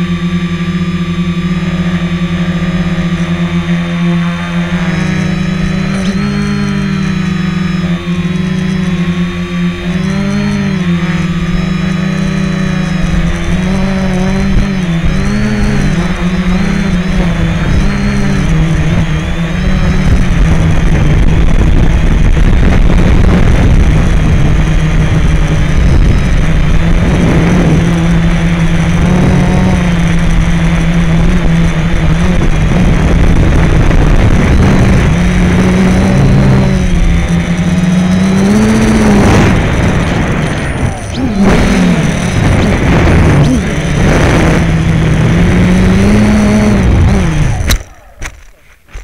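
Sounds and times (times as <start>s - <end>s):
low rushing wind noise: 0.0s - 49.0s
quadcopter propellers whirring: 0.0s - 49.0s.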